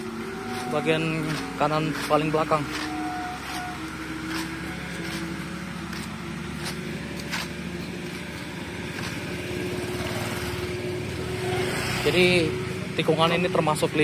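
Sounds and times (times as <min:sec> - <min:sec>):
scooter passing: 0:00.0 - 0:14.0
steady engine drone: 0:00.0 - 0:14.0.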